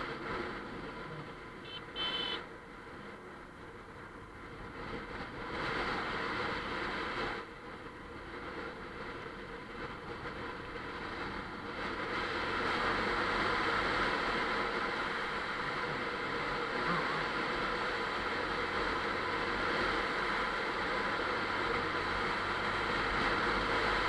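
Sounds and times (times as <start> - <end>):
wind and road noise while riding: 0.0 - 24.0.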